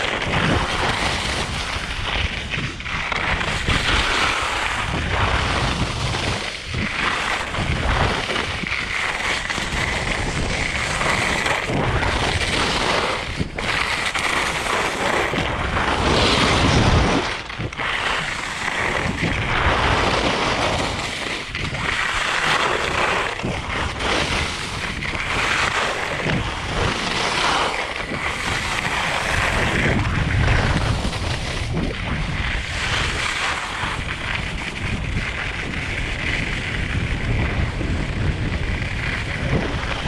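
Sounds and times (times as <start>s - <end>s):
skis carving over snow: 0.0s - 40.0s
wind buffeting microphone: 0.0s - 40.0s.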